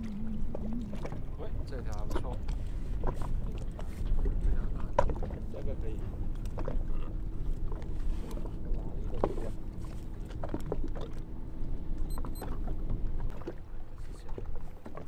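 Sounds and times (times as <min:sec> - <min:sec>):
boat engine low rumble: 0:00.0 - 0:15.0
water noise: 0:00.0 - 0:15.0
wind: 0:00.0 - 0:15.0.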